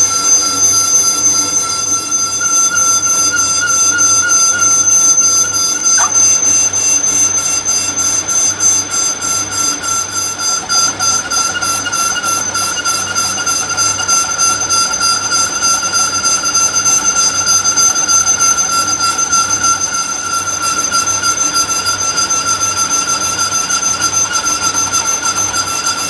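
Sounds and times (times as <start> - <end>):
lathe whining and ticking: 0.0 - 26.0.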